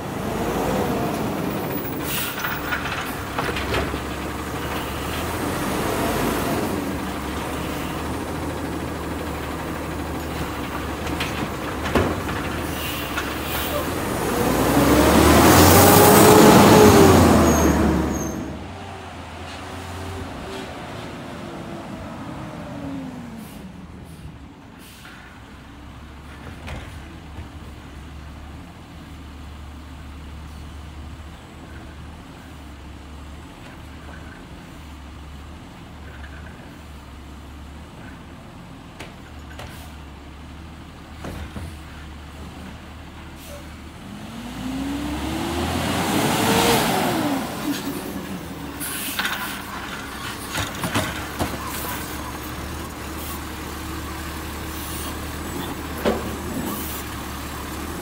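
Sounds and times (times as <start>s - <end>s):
truck engine idling and revving: 0.0s - 58.0s.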